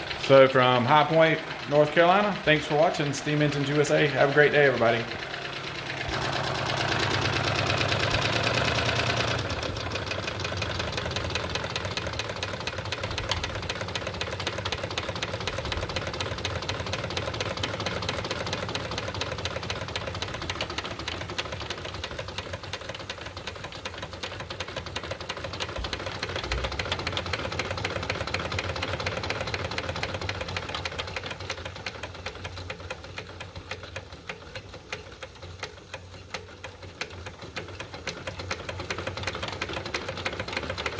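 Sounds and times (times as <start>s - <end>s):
toy steam engine ticking and chuffing: 0.0s - 40.9s.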